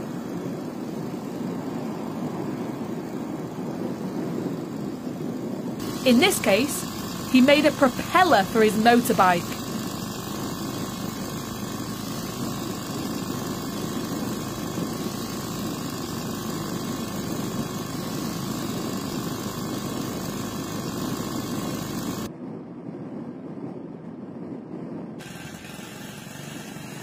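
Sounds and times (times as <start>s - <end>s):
propeller blades whirring: 0.0s - 22.3s, 25.2s - 27.0s.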